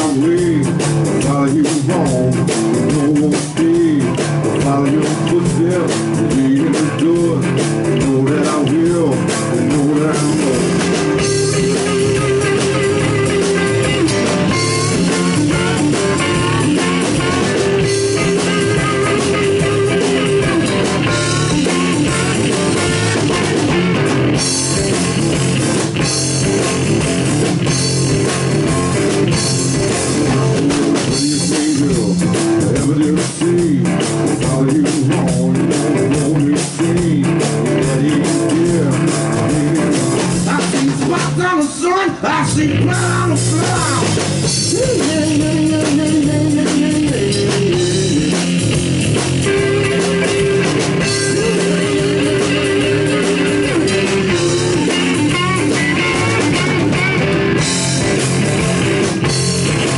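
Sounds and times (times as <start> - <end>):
bass guitar: 0.0 - 59.9
drum kit: 0.0 - 59.9
electric guitar lead lines: 0.0 - 59.9.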